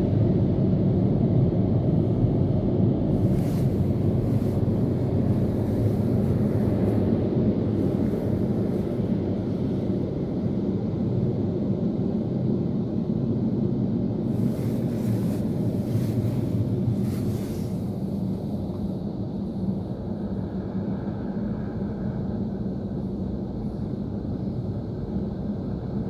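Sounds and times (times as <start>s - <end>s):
car wash water and machinery rumble: 0.0s - 26.0s.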